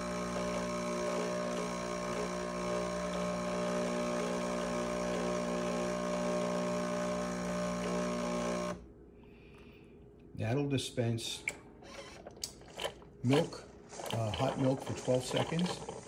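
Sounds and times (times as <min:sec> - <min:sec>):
coffee machine pump humming: 0:00.0 - 0:08.8, 0:11.8 - 0:16.0.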